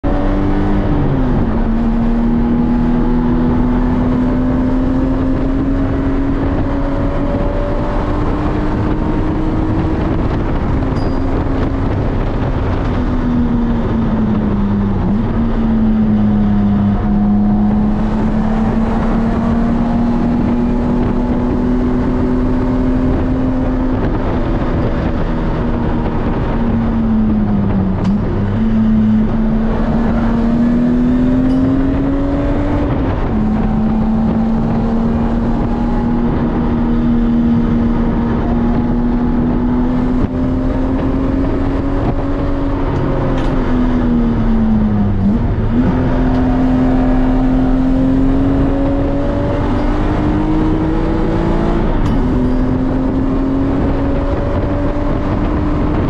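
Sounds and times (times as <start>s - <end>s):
car engine accelerating: 0.0s - 56.0s
tyre and road noise: 0.0s - 56.0s.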